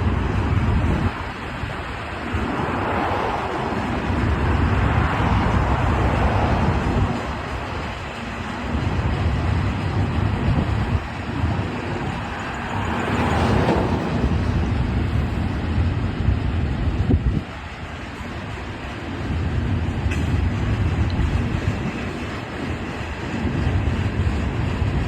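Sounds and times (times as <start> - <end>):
freight train passing: 0.0 - 25.0.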